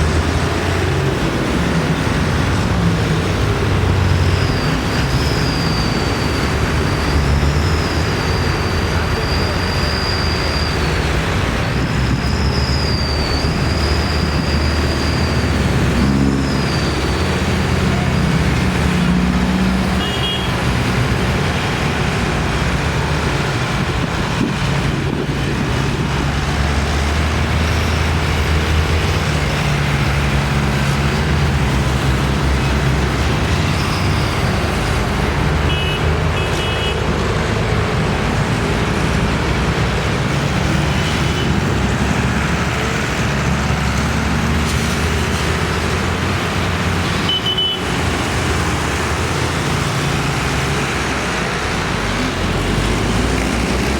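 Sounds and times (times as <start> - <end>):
tractor engines passing: 0.0 - 53.9.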